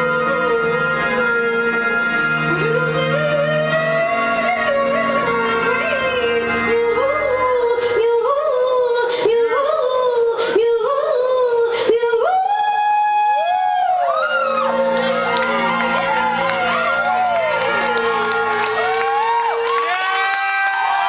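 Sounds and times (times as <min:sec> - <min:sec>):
person singing: 0:00.0 - 0:21.0.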